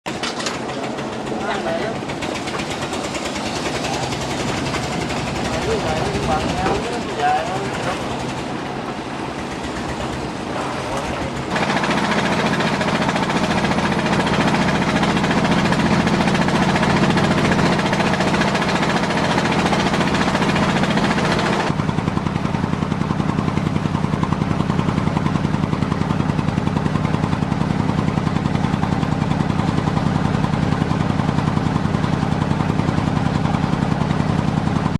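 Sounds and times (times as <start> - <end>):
heavy construction machinery: 0.1 - 34.9.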